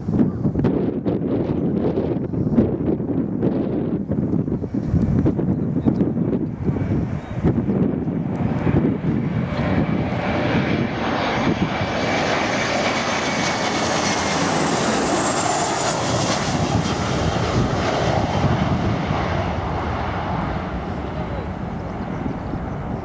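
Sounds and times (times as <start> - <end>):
airliner passing overhead: 0.0 - 23.0
wind buffeting microphone: 0.0 - 23.0.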